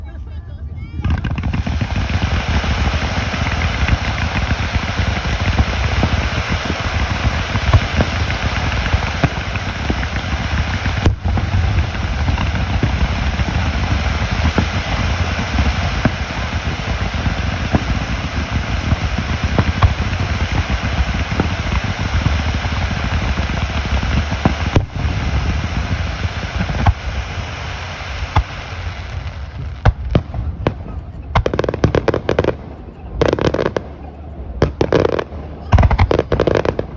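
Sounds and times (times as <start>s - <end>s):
deep rumble of firework booms: 0.0s - 36.9s
fireworks bursting and crackling: 0.0s - 36.9s.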